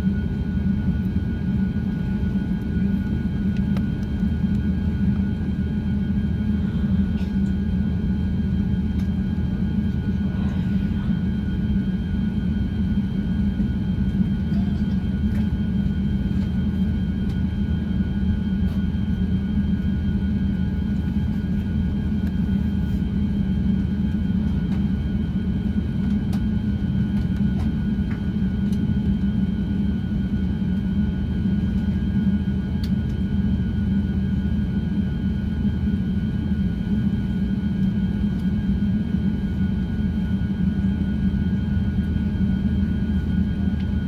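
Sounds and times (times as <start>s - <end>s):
airplane cabin engine drone: 0.0s - 44.0s.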